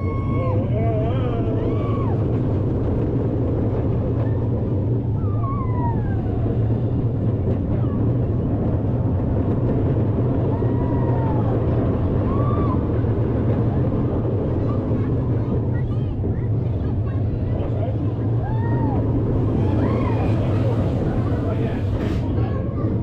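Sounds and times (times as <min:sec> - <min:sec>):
roller coaster rumbling on track: 0:00.0 - 0:23.0.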